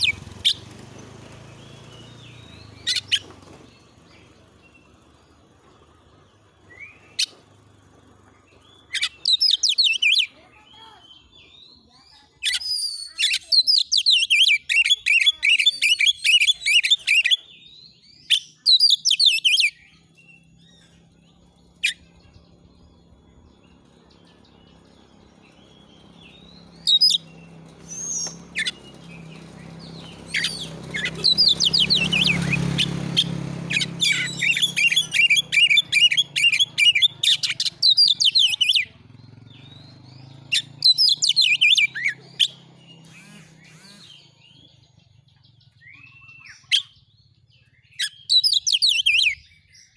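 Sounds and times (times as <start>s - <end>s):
magpie-robin singing: 0.0s - 49.9s.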